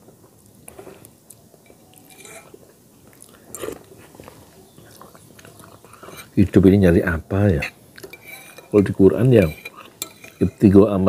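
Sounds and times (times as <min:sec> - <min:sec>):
person chewing quietly: 0:00.0 - 0:06.6, 0:07.6 - 0:10.7.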